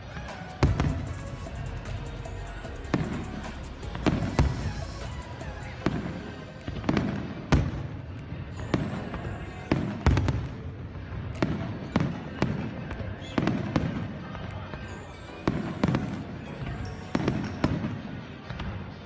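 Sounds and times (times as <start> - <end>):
fireworks bursting with sharp bangs: 0.0 - 18.9.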